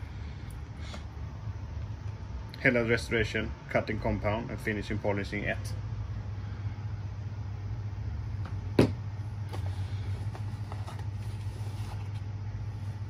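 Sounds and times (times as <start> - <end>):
steady low room hum: 0.0 - 13.0.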